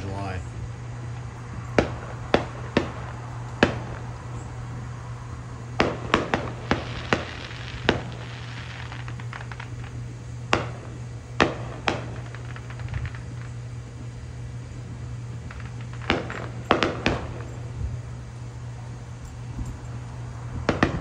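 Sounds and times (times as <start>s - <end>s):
distant fireworks bangs: 0.0s - 21.0s
fireworks crackling: 0.0s - 21.0s
steady low hum: 0.0s - 21.0s.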